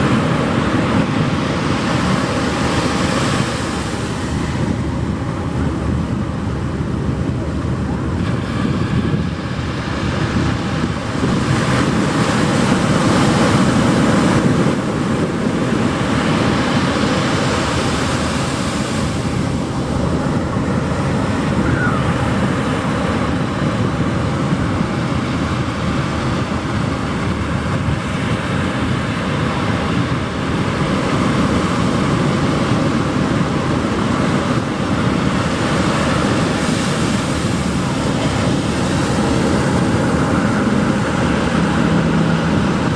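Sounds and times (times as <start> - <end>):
surf breaking on a beach: 0.0 - 42.9.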